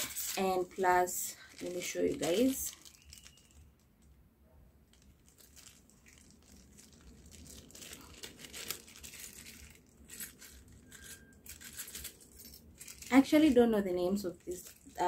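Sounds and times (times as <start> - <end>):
plastic bag crinkling and tearing: 0.0 - 3.8, 4.9 - 15.0.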